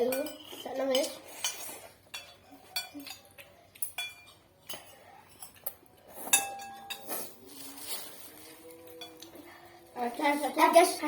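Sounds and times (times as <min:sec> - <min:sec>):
utensils clinking against dishes: 0:00.0 - 0:09.8.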